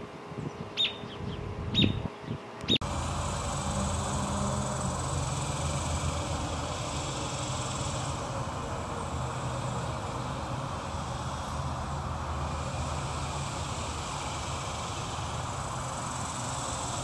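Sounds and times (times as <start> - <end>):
low mechanical drone: 0.0 - 17.0
even hiss: 2.8 - 17.0.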